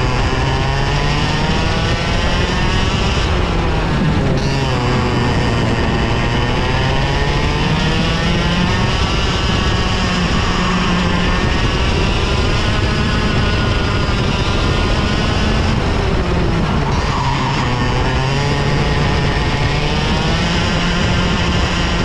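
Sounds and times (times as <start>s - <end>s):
kart engines revving: 0.0s - 22.0s.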